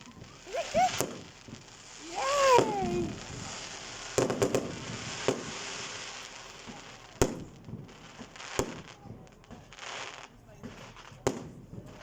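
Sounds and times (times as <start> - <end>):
fireworks cracking: 0.0 - 12.0
fireworks crackling: 0.0 - 12.0
fireworks sharp bangs: 0.0 - 12.0.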